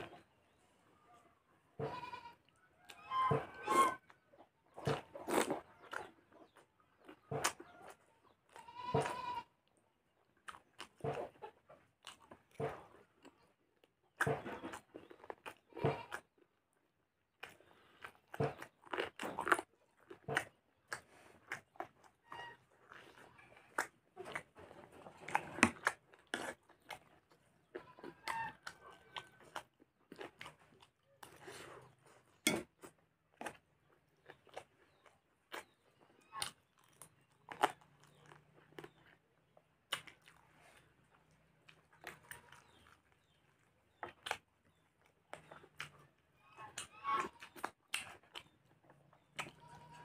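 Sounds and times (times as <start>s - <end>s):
person chewing and smacking: 4.7s - 50.0s.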